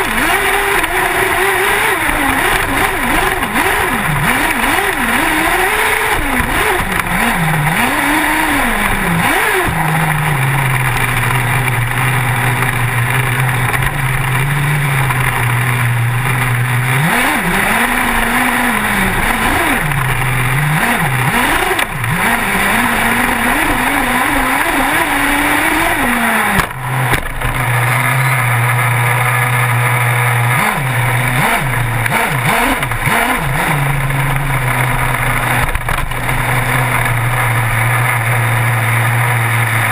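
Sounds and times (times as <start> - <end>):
small two-stroke engine revving: 0.0 - 39.9
wind and tyre noise: 0.0 - 39.9.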